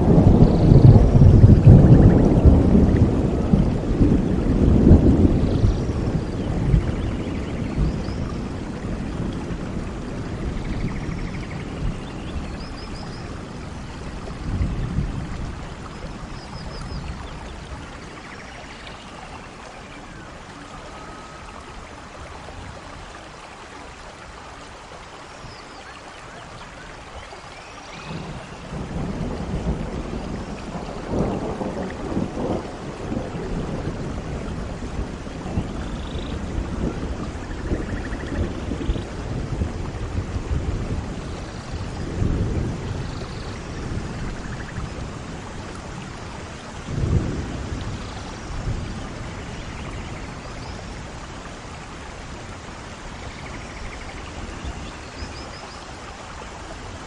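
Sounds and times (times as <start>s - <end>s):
rolling thunder: 0.0s - 19.6s, 27.9s - 55.4s
steady rain: 0.0s - 57.0s.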